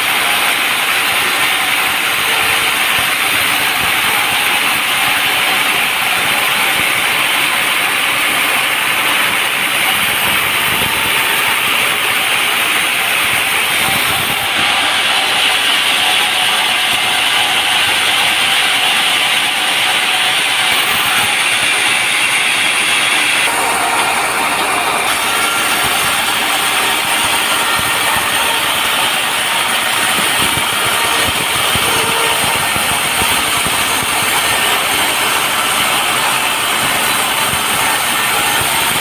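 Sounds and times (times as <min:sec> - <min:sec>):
sawmill saw running: 0:00.0 - 0:39.0.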